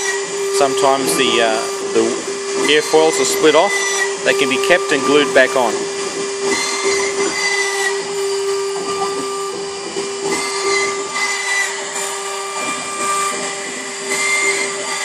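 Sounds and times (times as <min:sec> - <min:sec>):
cutter hissing through wood: 0:00.0 - 0:15.0
mill spindle high whine: 0:00.0 - 0:15.0.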